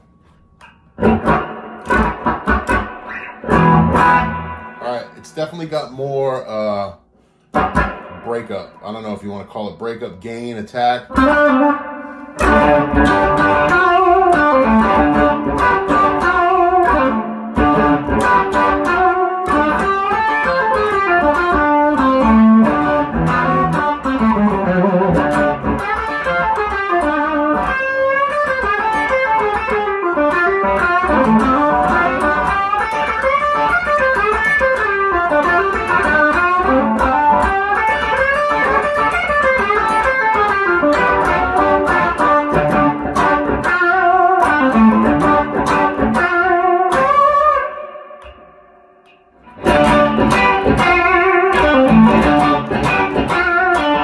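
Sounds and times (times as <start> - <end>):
electric guitar playing: 0.0 - 54.0.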